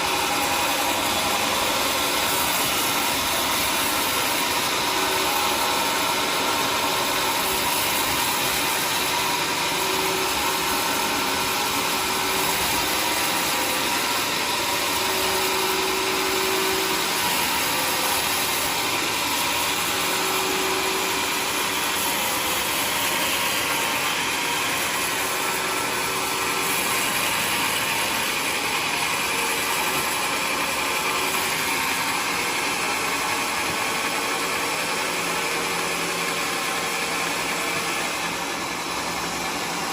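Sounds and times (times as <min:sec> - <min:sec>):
sawmill sawing log: 0:00.0 - 0:39.9.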